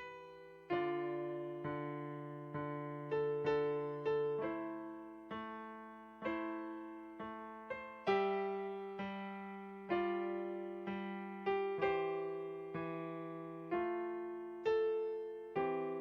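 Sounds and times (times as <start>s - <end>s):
slow solo piano hymn: 0.0s - 16.0s.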